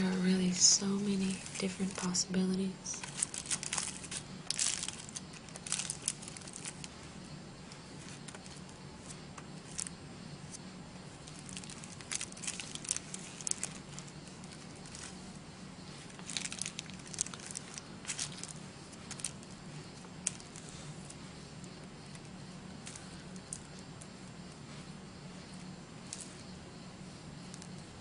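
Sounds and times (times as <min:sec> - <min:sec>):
wet crackling of tissue paper: 0:00.0 - 0:07.1, 0:11.2 - 0:26.5
faint steady hum: 0:00.0 - 0:28.0.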